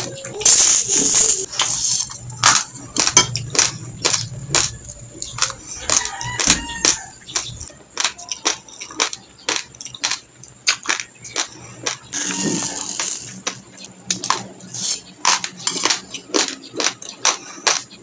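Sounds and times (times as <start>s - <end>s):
raw rice being chewed: 2.5s - 18.0s.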